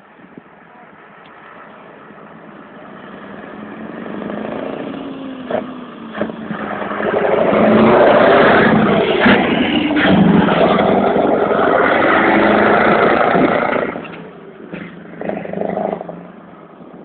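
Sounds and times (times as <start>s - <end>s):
diesel truck engine passing: 1.4s - 17.0s.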